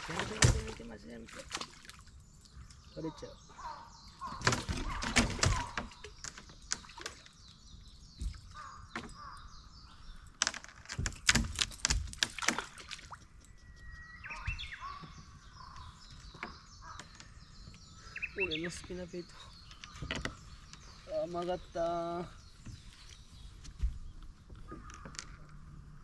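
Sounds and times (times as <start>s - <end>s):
birds singing: 0.0s - 26.0s.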